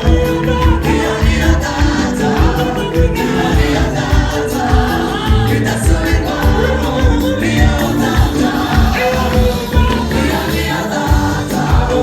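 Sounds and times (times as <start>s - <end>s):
band with steady bass beat: 0.0s - 12.0s
gospel choir singing: 0.0s - 12.0s.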